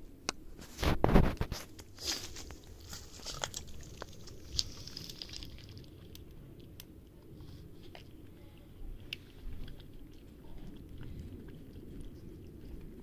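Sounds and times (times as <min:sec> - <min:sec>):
cats chewing and crunching: 0:00.6 - 0:13.0.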